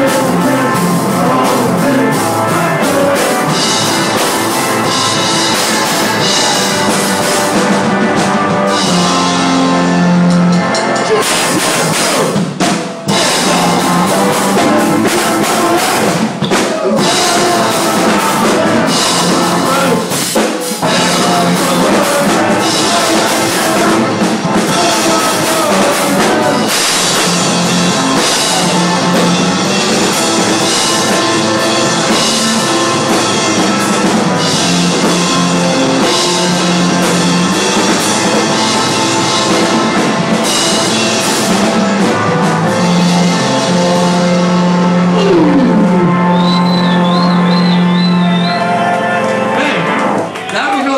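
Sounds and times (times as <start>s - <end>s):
drum kit: 0.0s - 50.9s
live rock band playing: 0.0s - 50.9s.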